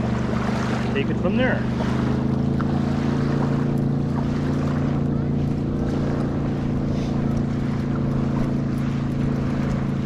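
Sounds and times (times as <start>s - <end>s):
engine droning steadily: 0.0s - 10.0s.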